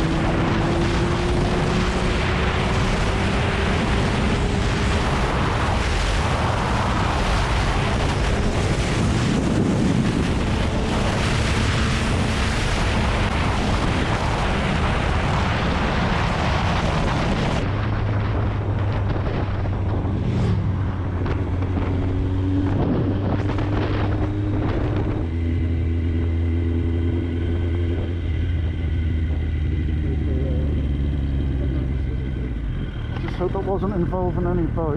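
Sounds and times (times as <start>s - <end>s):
wind noise on camera: 0.0s - 33.3s
motorcycle engine: 0.0s - 34.9s.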